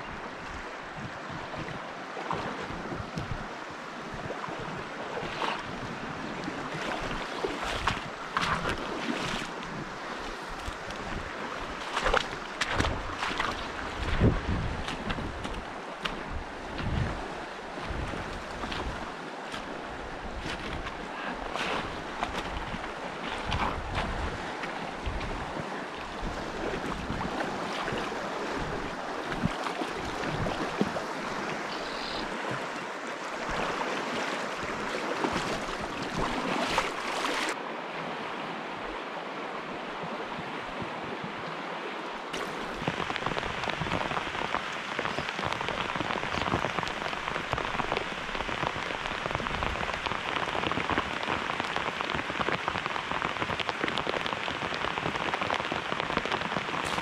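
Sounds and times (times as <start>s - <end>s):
rain falling on water: 0.0s - 37.6s, 42.2s - 57.0s
stream water rushing: 0.0s - 57.0s.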